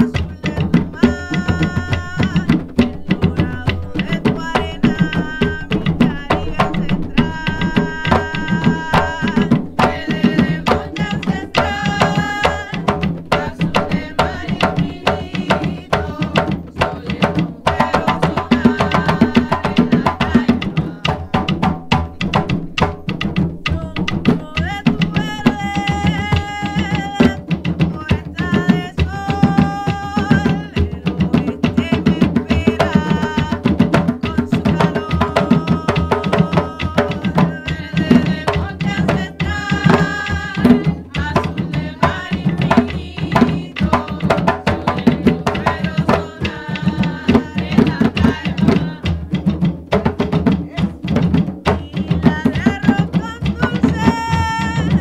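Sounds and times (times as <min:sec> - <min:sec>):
person singing: 0:00.0 - 0:22.2, 0:23.6 - 0:49.5, 0:50.6 - 0:55.0
hand drums playing steady rhythm: 0:00.0 - 0:55.0.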